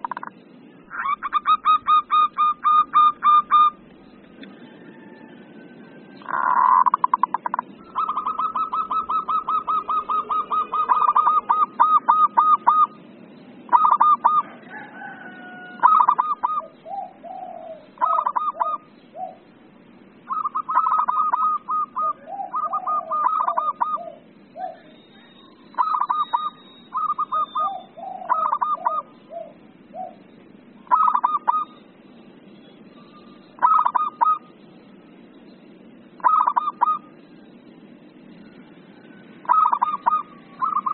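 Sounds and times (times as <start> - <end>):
dove cooing: 0.9 - 3.9, 4.6 - 13.0, 13.7 - 19.6, 20.3 - 31.8, 32.9 - 34.5, 36.2 - 37.2, 38.3 - 40.9.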